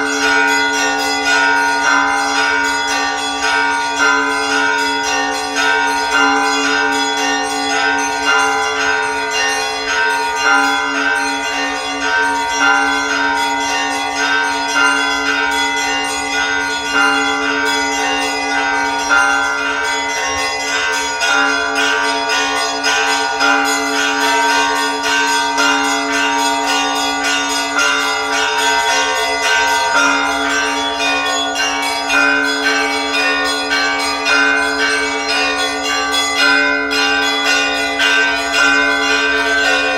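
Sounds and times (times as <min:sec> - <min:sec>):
hum of large bells: 0:00.0 - 0:39.9
small church bells ringing: 0:00.0 - 0:39.9.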